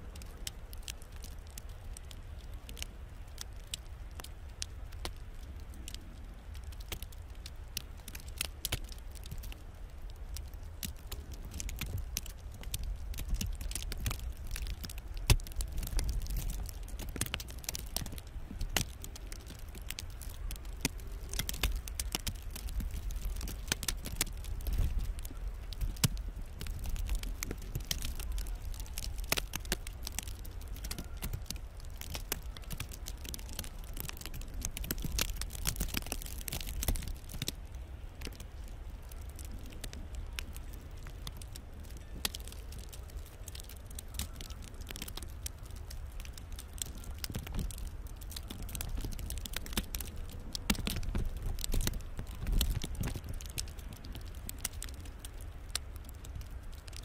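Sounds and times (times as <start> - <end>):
ice pellets ticking on snow: 0.0 - 57.0.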